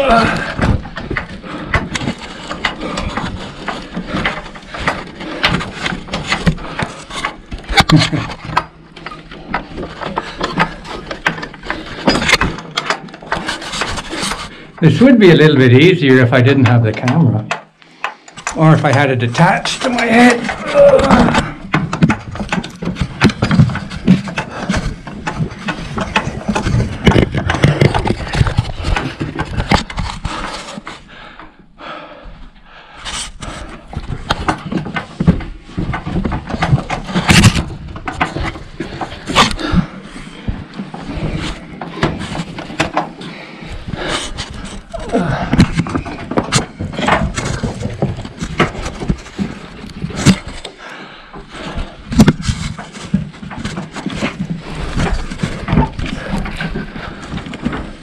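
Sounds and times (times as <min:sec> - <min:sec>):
knocks and scrapes on wooden ladder: 0:00.0 - 0:58.0.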